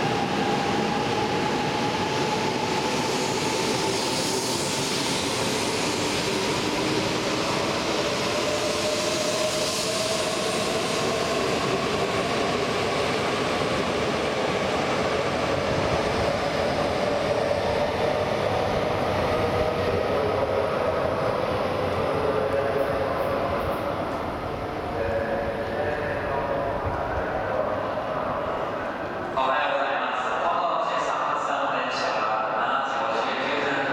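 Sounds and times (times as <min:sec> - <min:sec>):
train rolling noise: 0:00.0 - 0:29.5.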